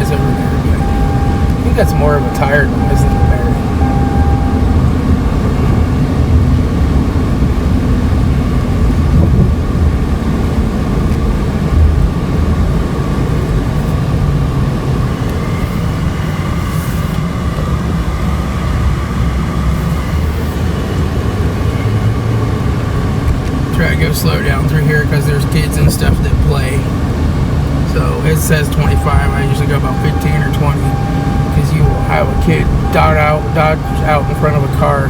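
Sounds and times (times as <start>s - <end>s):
car engine running: 0.0s - 35.0s
road and tyre noise: 0.0s - 35.0s.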